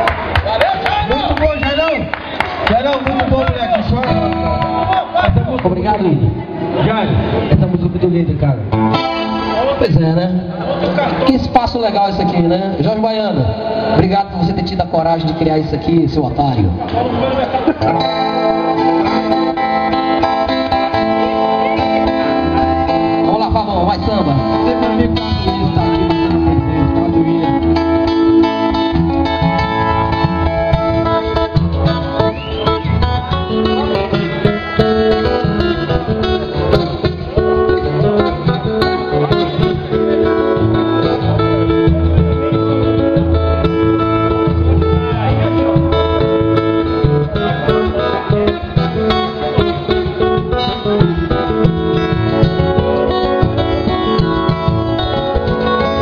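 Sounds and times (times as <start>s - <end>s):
electric guitar playing: 2.0s - 56.0s.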